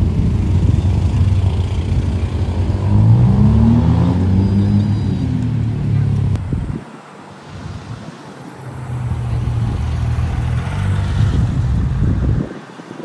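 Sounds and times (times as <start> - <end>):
car engine accelerating: 0.0 - 6.8, 7.4 - 12.5.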